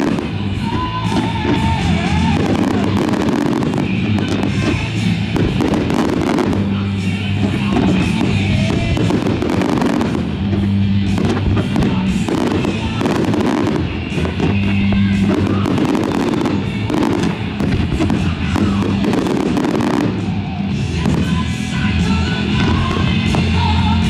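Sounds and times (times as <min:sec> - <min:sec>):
fireworks bangs and crackles: 0:00.0 - 0:24.0
music with steady bass: 0:00.0 - 0:24.0.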